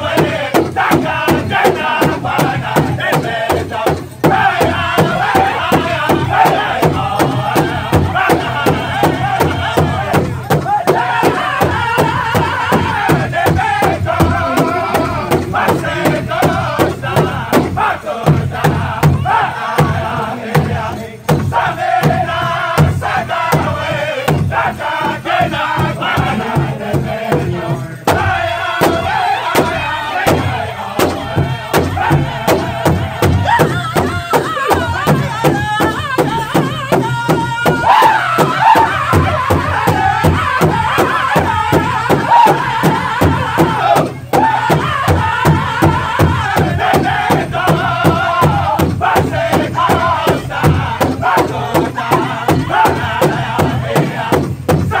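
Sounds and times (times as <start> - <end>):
large hand drum beating: 0.0 - 55.0
men singing high-pitched: 0.0 - 55.0.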